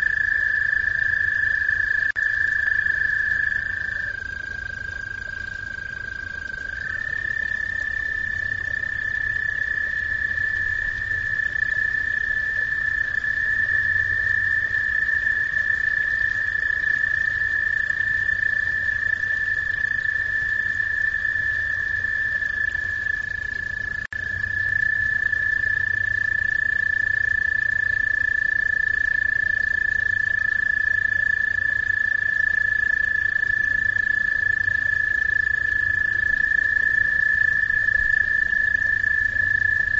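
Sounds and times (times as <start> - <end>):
frogs trilling: 0.0 - 39.9.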